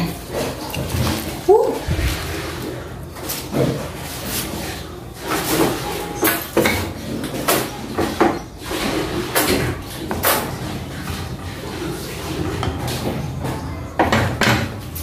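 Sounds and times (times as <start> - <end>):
wooden spatula scraping bowl: 0.0 - 13.7.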